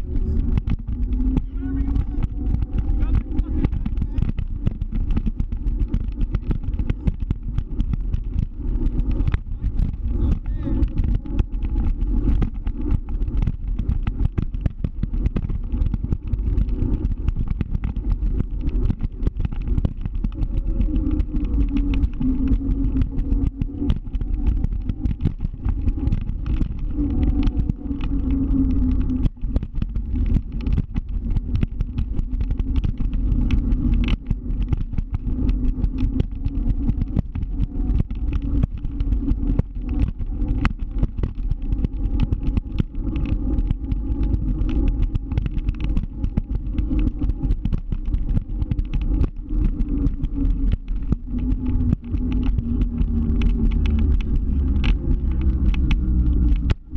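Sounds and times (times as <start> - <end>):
short crackles: 0.0 - 56.9.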